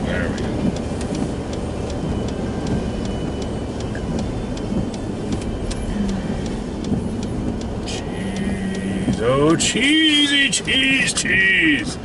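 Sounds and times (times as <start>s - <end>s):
engine and road rumble: 0.0s - 12.0s
light ticking: 0.0s - 12.0s.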